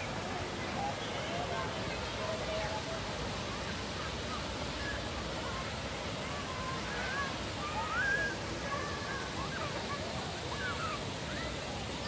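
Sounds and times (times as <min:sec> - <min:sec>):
distant voices of people and children: 0:00.0 - 0:12.0.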